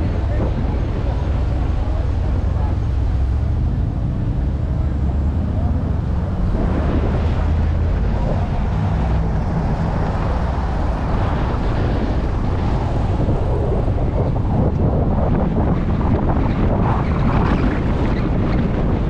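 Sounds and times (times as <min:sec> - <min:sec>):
vehicle road and engine rumble: 0:00.0 - 0:19.0
wind buffeting microphone: 0:00.0 - 0:19.0.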